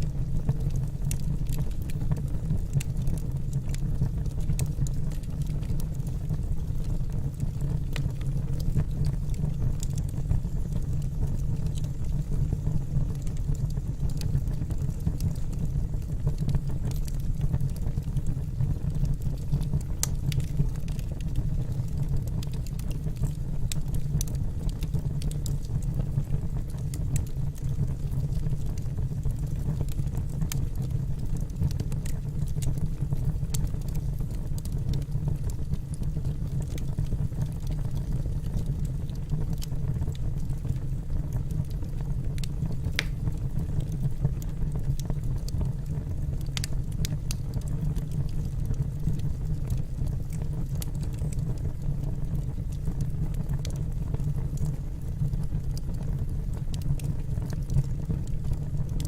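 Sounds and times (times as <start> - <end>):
fire rumbling: 0.0 - 59.0
wood crackling and popping: 0.0 - 59.0.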